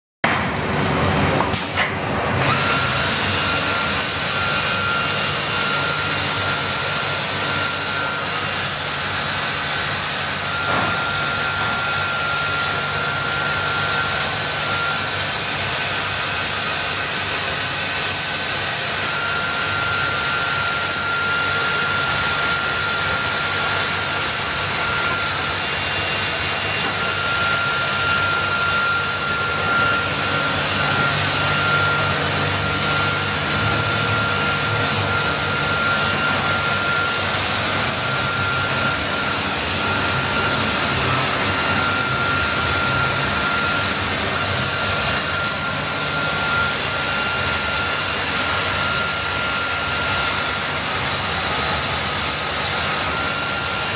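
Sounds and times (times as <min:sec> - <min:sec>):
woodworking machine running: 0:00.2 - 0:53.9.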